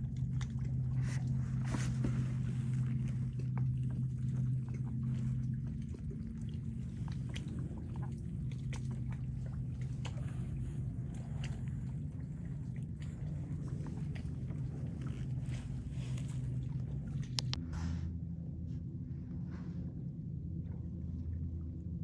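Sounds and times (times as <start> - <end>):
water lapping against kayak hull: 0.0 - 18.2
steady low hum: 0.0 - 22.0.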